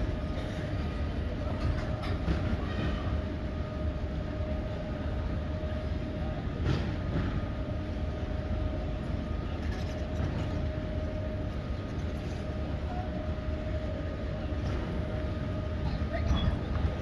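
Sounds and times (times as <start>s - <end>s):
conveyor rumbling: 0.0s - 17.0s
faint mechanical whine: 0.0s - 17.0s.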